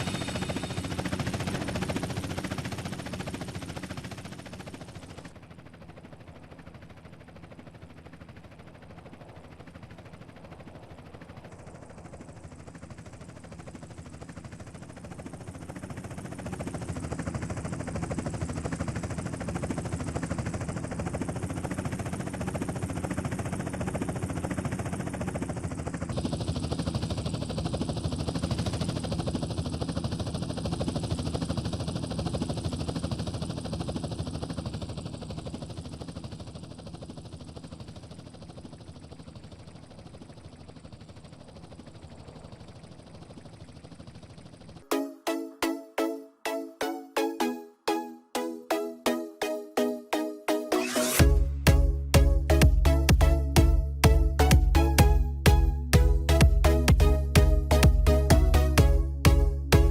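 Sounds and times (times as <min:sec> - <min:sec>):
helicopter rotor and engine: 0:00.0 - 0:59.9.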